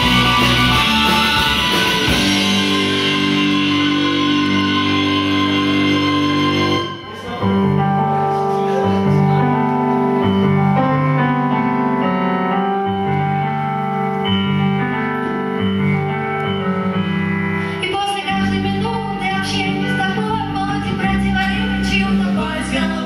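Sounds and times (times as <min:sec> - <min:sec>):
instrumental rock band: 0:00.0 - 0:23.0
keyboard piano-like chords: 0:00.0 - 0:23.0.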